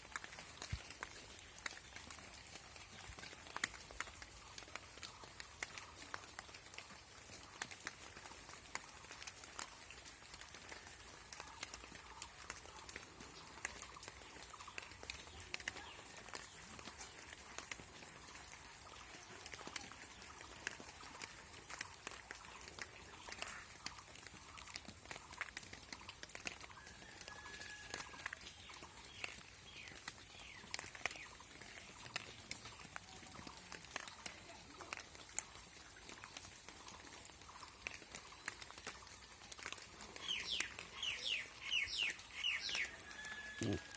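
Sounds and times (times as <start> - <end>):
faint rain hiss: 0.0 - 43.9
raindrops tapping: 0.0 - 43.9.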